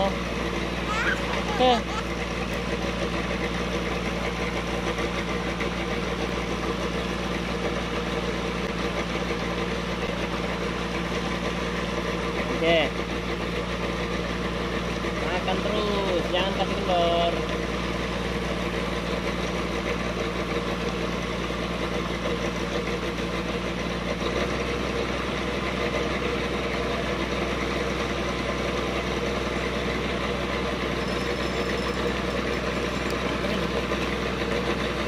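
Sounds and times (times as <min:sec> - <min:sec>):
pump engine droning: 0:00.0 - 0:35.0.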